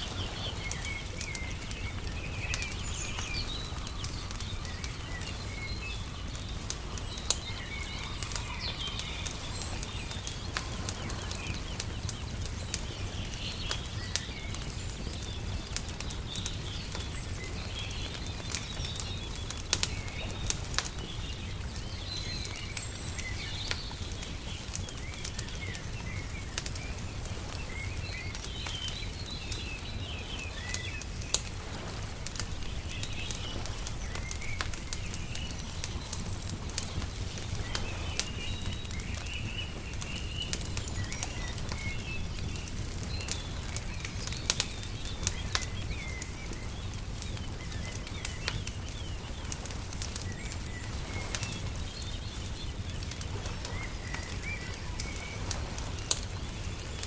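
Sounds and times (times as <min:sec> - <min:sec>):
small birds chirping: 0:00.0 - 0:57.0
wood fire crackling and popping: 0:00.0 - 0:57.0.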